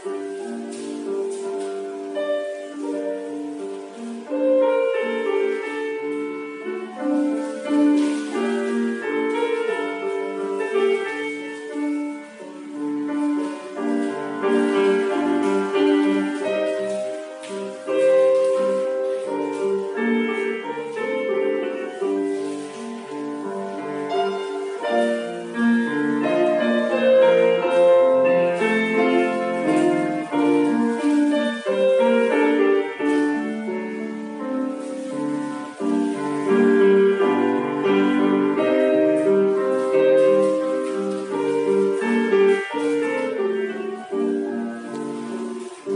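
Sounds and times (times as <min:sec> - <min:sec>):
solo classical piano: 0:00.0 - 0:45.9.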